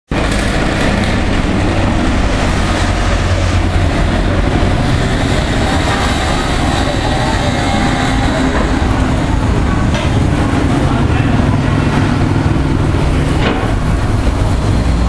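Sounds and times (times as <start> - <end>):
bus engine rumble: 0.1 - 15.0
street traffic noise: 0.1 - 15.0.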